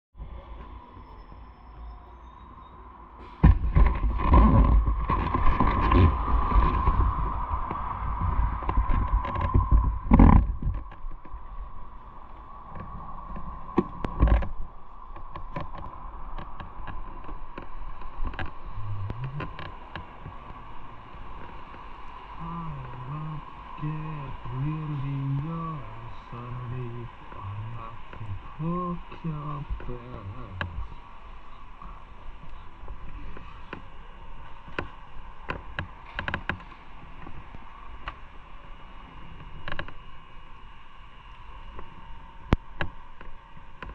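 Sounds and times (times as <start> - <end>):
wind rumble on microphone: 0.2 - 43.9.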